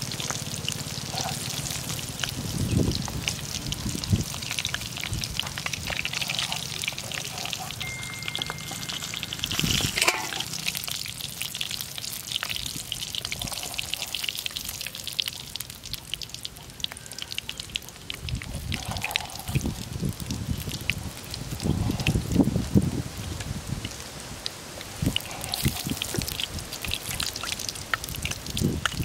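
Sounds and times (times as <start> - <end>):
hot oil sizzling in a pan: 0.0 - 29.0.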